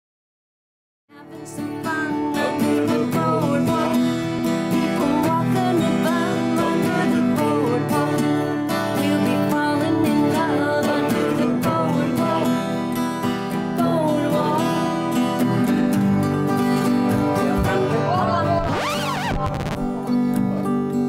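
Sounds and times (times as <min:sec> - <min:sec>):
woman singing: 0:01.1 - 0:15.9, 0:16.5 - 0:18.8
acoustic guitars strumming: 0:01.2 - 0:21.0.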